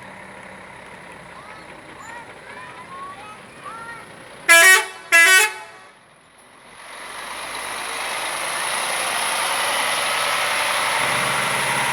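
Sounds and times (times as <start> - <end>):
large vehicle engine and road noise: 0.0 - 11.9.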